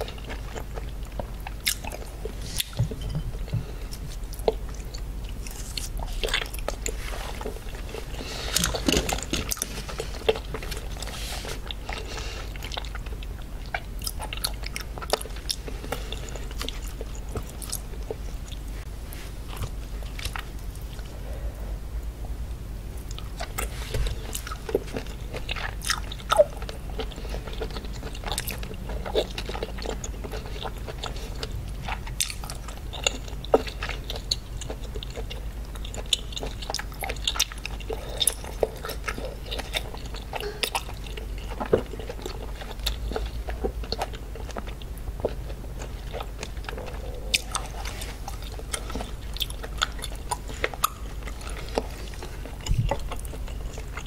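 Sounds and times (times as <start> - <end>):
close-miked chewing: 0.0 - 22.1, 23.0 - 54.0.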